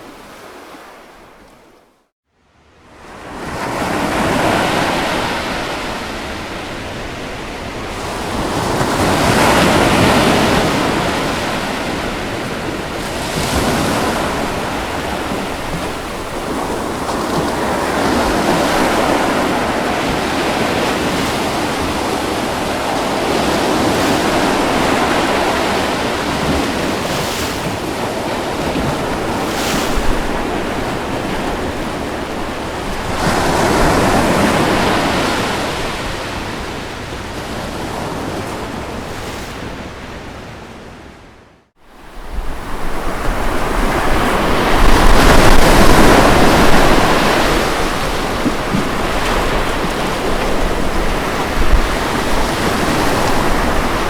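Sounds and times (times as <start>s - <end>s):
ocean surf breaking: 3.0s - 54.0s.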